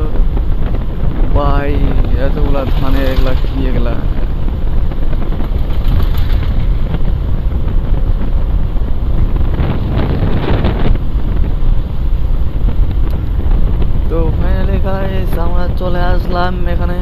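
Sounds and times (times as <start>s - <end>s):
motorcycle running: 0.0s - 16.4s
wind buffeting microphone: 0.0s - 17.0s.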